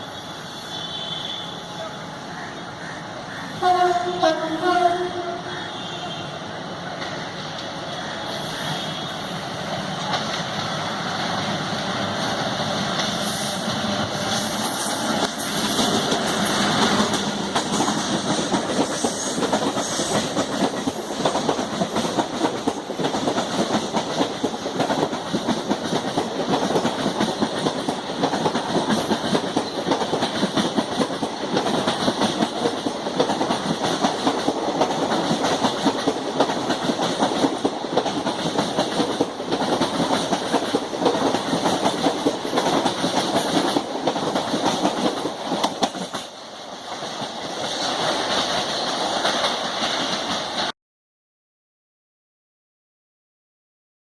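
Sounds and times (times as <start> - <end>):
train coaches rolling past: 0.0 - 50.7.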